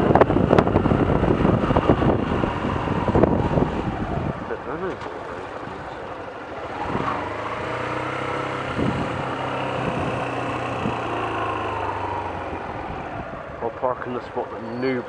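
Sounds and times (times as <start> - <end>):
motorcycle engine running low revs: 0.0 - 15.0.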